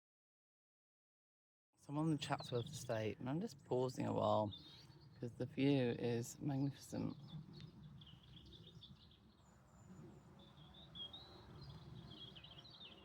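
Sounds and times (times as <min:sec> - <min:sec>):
small birds chirping and warbling: 0:02.0 - 0:13.0.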